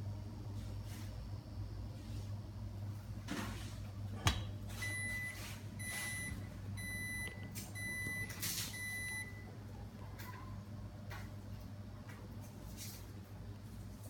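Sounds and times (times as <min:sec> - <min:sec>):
induction hob humming: 0:00.0 - 0:12.5.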